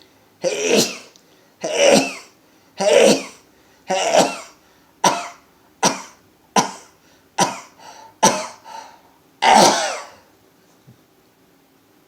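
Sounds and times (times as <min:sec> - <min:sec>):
man sneezing: 0:00.4 - 0:10.2.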